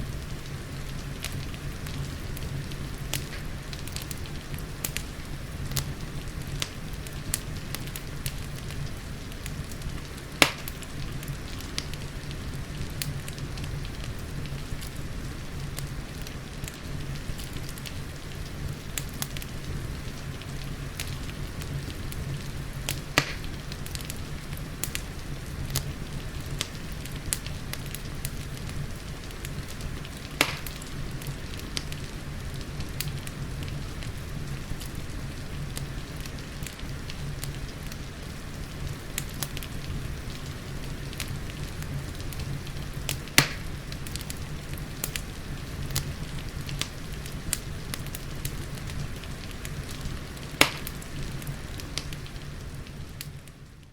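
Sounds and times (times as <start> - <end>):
rain hiss: 0.0 - 53.9
wood fire crackling: 0.0 - 53.9
loud fire pops: 0.1 - 53.5.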